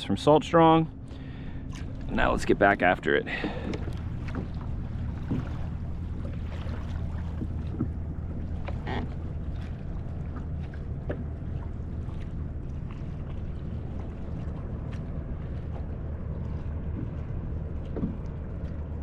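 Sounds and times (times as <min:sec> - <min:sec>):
waves lapping against kayak hull: 0:00.6 - 0:19.0.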